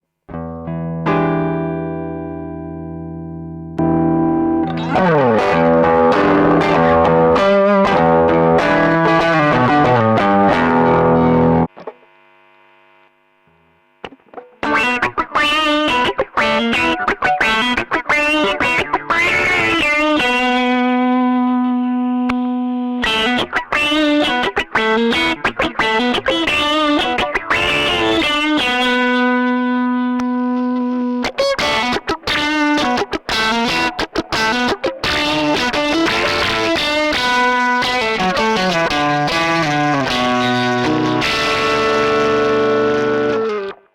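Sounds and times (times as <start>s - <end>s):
distorted electric guitar: 0.3s - 43.9s.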